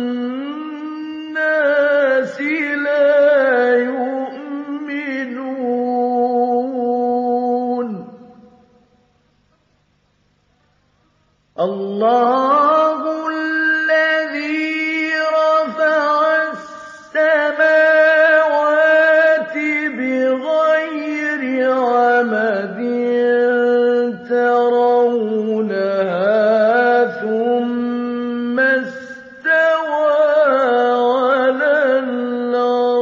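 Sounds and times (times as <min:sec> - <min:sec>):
man chanting recitation: 0:00.0 - 0:08.4, 0:11.6 - 0:33.0.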